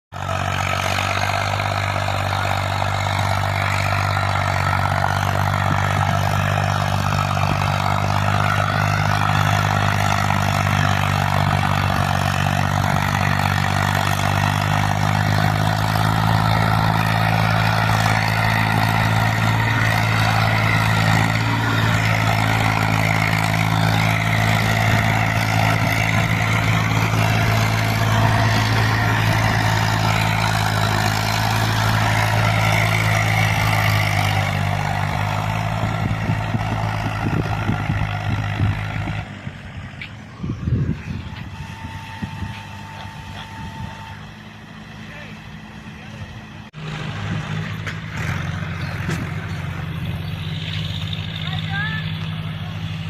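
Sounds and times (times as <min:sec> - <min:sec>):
tractor diesel engine running: 0:00.1 - 0:53.0.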